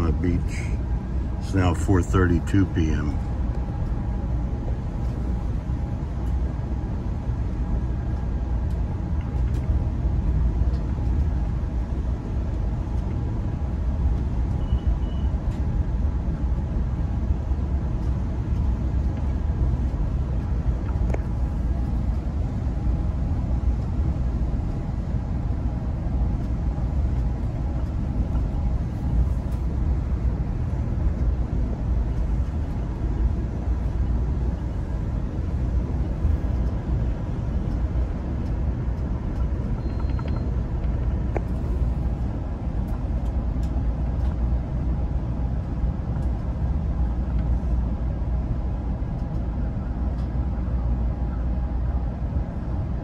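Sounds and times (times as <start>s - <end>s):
train rumbling at speed: 0.0s - 53.0s.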